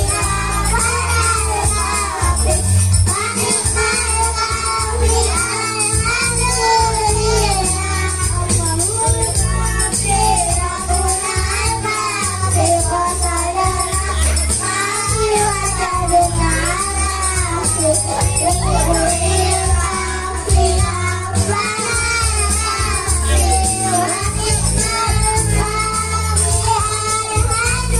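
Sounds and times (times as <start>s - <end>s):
frame drum percussion: 0.0s - 27.9s
group singing: 0.0s - 27.9s.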